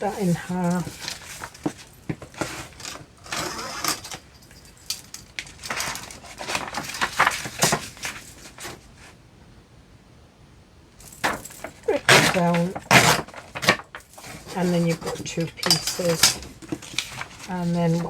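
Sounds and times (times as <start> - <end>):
paper crinkling and creasing: 0.0 - 4.2, 5.3 - 9.1, 11.0 - 18.0.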